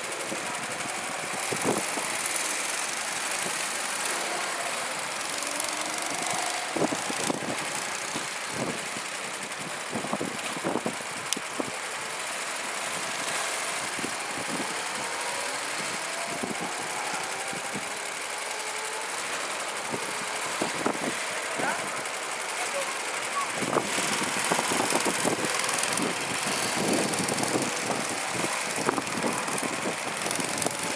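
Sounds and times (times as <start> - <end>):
go-kart engines idling: 0.0 - 30.9
go-karts accelerating past: 0.0 - 30.9.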